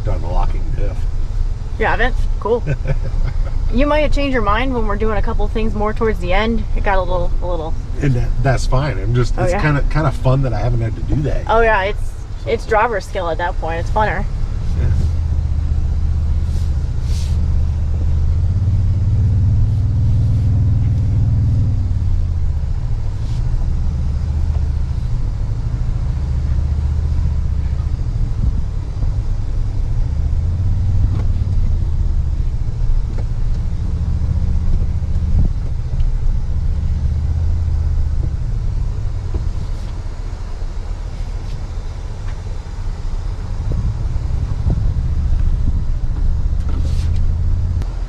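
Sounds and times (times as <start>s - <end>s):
truck engine droning: 0.0s - 48.0s.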